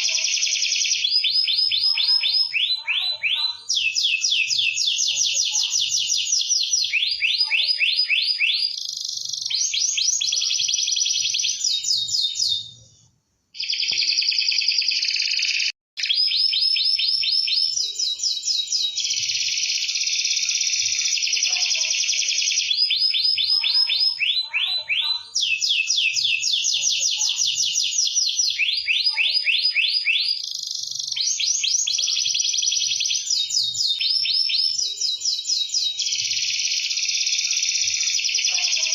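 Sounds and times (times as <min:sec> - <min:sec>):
canary singing rapid trills: 0:00.0 - 0:12.8, 0:13.6 - 0:38.9.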